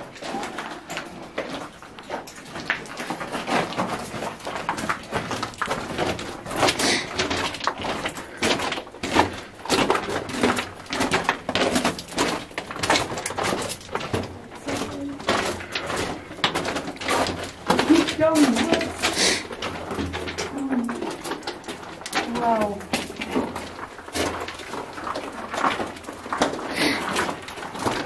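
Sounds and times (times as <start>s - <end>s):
clothing and backpack rustling: 0.0s - 28.0s
footsteps crunching on rock: 0.0s - 28.0s.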